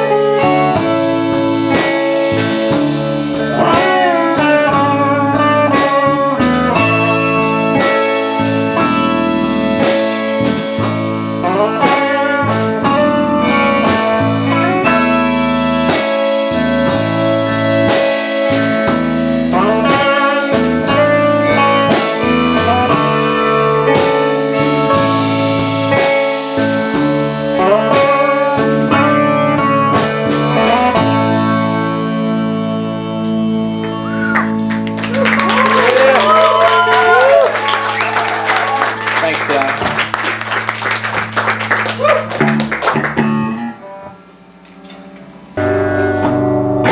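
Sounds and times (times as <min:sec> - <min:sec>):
live band playing: 0:00.0 - 0:46.9.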